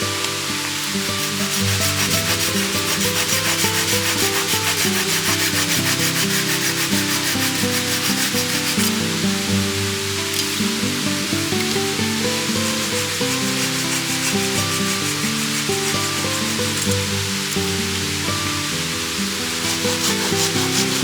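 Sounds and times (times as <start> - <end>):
rhythmic rasping strokes: 0.0 - 21.0.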